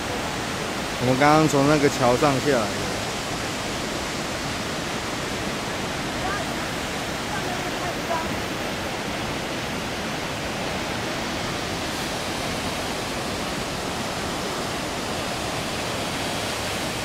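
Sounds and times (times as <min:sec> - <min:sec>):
waterfall and rapids rushing: 0:00.0 - 0:17.0.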